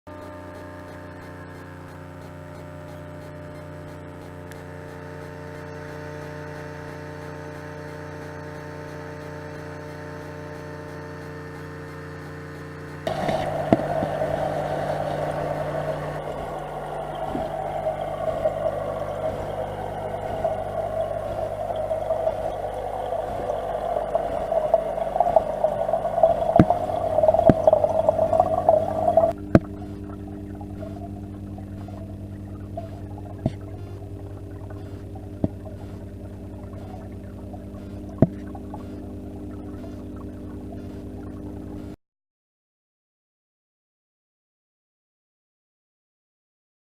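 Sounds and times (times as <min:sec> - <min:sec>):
aquarium water bubbling: 0:00.1 - 0:42.0
electrical mains hum: 0:00.1 - 0:42.0.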